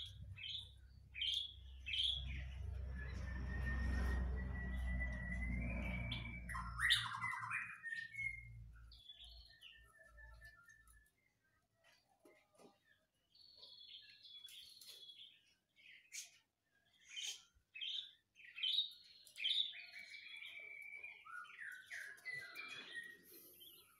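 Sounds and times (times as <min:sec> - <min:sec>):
bird singing: 0:00.0 - 0:23.9.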